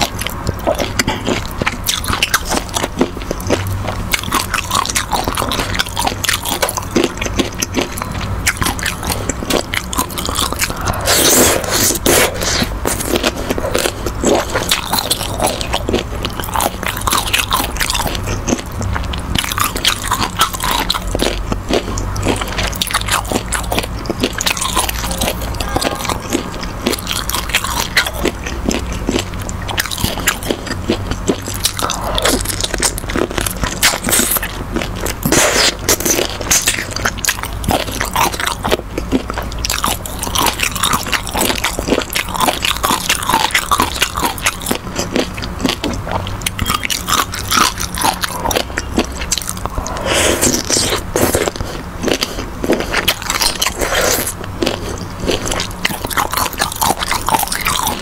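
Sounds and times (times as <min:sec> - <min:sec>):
close chewing and mouth smacks: 0:00.0 - 0:58.0.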